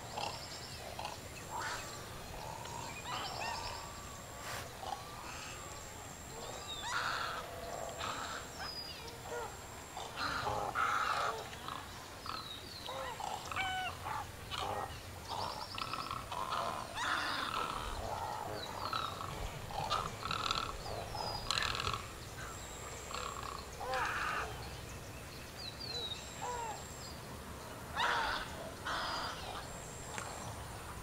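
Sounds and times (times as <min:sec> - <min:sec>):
wild bird calls: 0:00.0 - 0:31.0.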